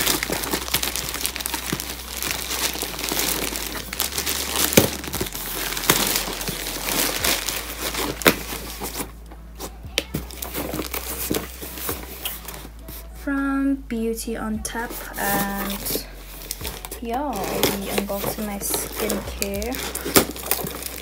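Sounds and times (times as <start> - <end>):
packaging crinkling and tearing: 0.0 - 13.2, 14.8 - 21.0.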